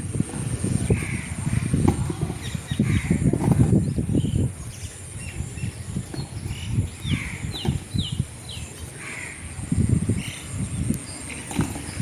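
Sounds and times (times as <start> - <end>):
low rumbling noise: 0.0 - 12.0
swallows chirping: 0.3 - 12.0.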